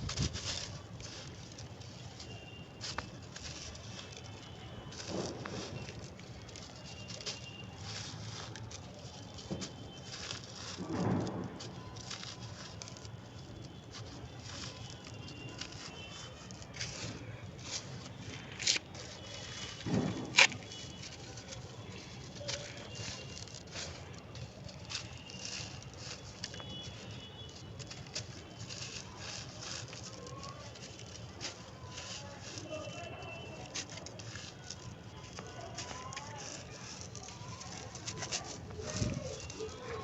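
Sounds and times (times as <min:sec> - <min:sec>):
brittle material crunching: 0:00.0 - 0:40.0.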